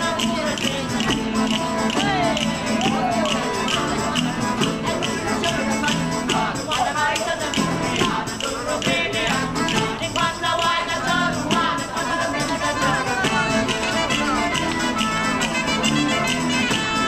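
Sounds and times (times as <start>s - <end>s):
accordion melody: 0.0s - 17.0s
acoustic guitars strumming: 0.0s - 17.0s.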